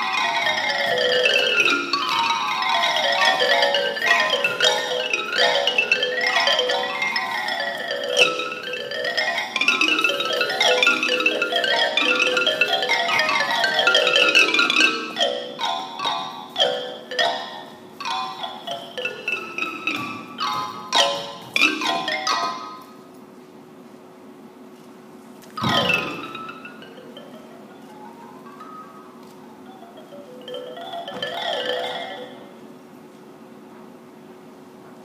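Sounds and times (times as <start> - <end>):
xylophone played with mallets: 0.0 - 23.0, 25.6 - 32.7.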